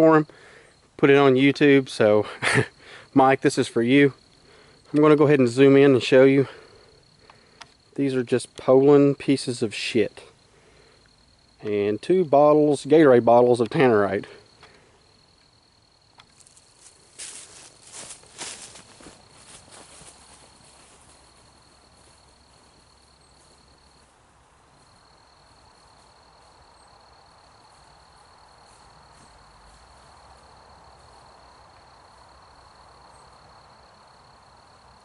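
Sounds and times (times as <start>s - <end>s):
faint outdoor background noise: 0.0s - 35.0s.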